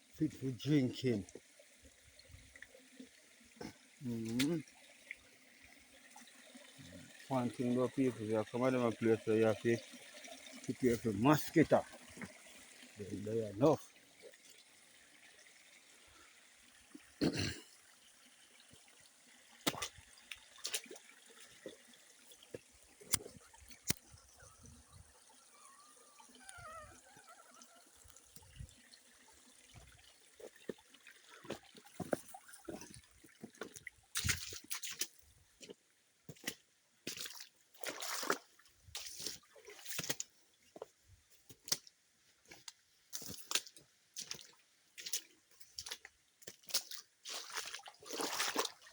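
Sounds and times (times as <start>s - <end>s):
water splashing: 0.0s - 40.4s, 42.5s - 48.9s
water trickling and dripping: 0.0s - 48.9s.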